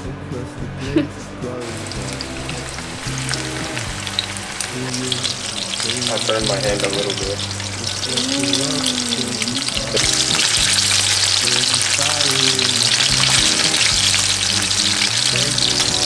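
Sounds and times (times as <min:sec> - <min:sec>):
food sizzling in a pan: 0:01.6 - 0:16.0.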